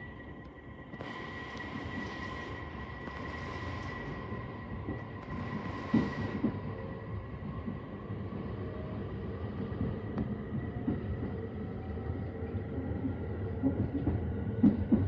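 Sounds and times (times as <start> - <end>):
train interior hum: 0.0 - 15.0.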